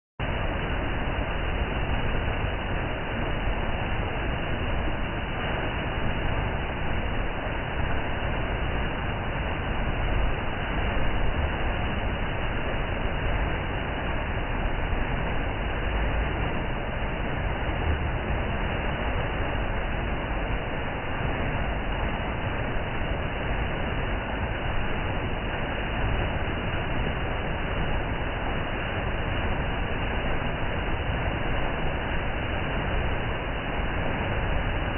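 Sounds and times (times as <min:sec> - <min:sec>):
waterfall roaring: 0:00.2 - 0:34.9.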